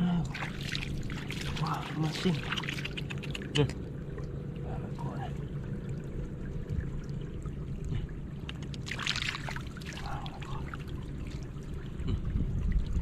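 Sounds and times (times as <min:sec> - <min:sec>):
steady low rumble: 0:00.0 - 0:13.0
water splashing: 0:00.0 - 0:13.0.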